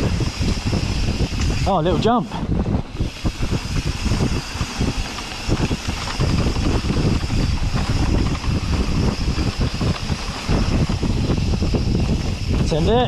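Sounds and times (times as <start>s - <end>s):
tyres rumbling on dirt trail: 0.0s - 13.0s
wind rushing over microphone: 0.0s - 13.0s.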